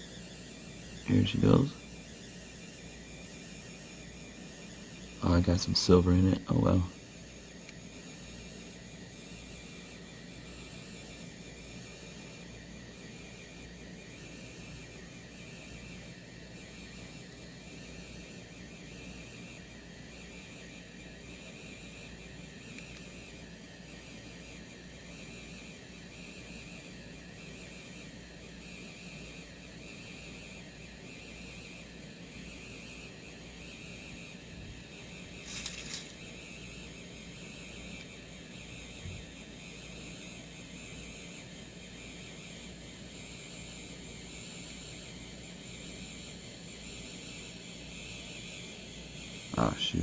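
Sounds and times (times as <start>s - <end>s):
pen feed motor whining: 0.0s - 50.0s.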